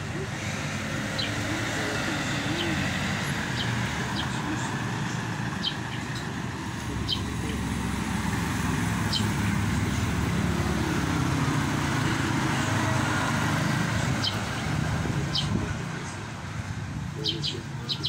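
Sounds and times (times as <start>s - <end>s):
birds chirping: 0.0s - 18.0s
vehicle engine running: 0.0s - 18.0s.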